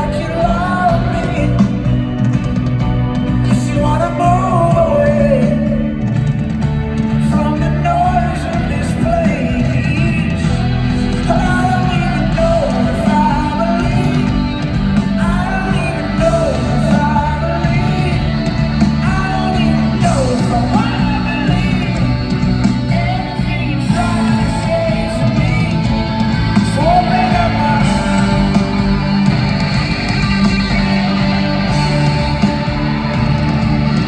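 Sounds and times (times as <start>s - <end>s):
live folk-rock band: 0.0s - 34.0s
person singing: 0.0s - 34.0s.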